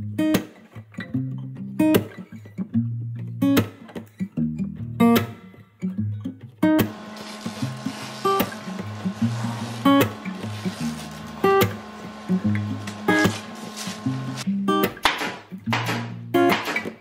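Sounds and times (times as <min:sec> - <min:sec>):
guitar music: 0:00.0 - 0:16.6.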